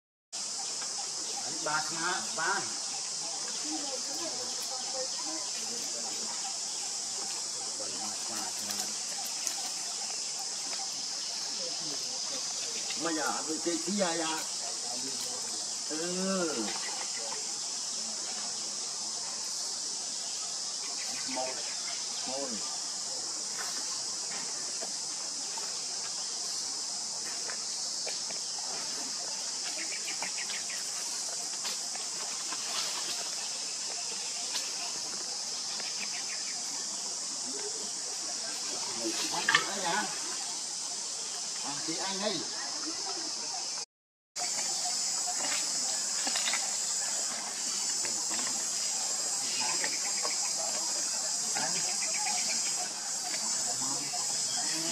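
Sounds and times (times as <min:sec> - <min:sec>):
high-pitched insect drone: 0:00.4 - 0:43.8, 0:44.4 - 0:54.9.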